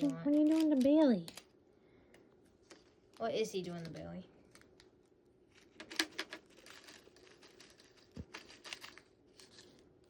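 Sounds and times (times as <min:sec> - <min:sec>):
craft materials clicking and rustling: 0:00.0 - 0:01.5, 0:02.6 - 0:09.9.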